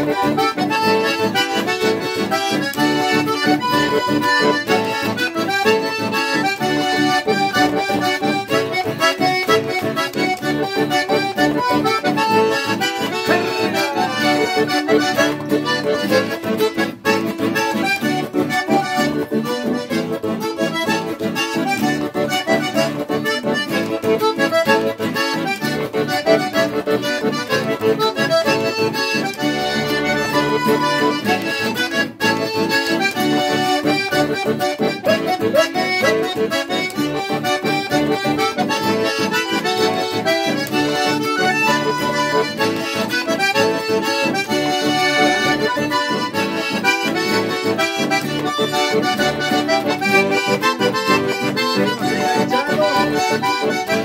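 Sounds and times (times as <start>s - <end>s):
acoustic guitar strumming: 0.0s - 54.0s
button accordion melody: 0.0s - 54.0s.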